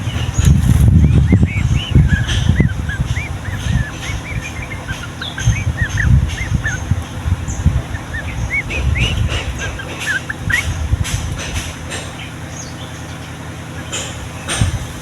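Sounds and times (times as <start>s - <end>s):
loud low rumble: 0.0s - 13.1s
bulbuls chattering: 0.0s - 15.0s.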